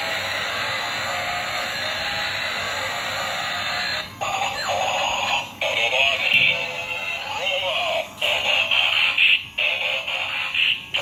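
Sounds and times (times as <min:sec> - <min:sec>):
toy train electronic music: 0:00.0 - 0:11.0.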